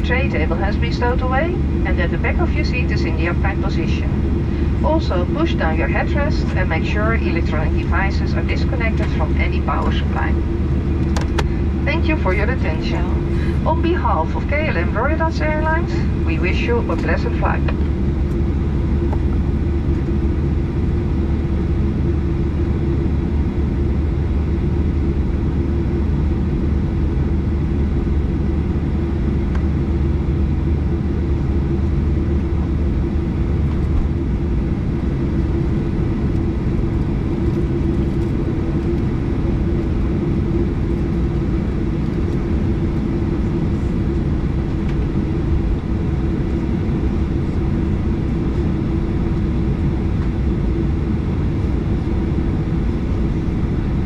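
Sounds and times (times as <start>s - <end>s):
aircraft cabin hum: 0.0s - 54.0s.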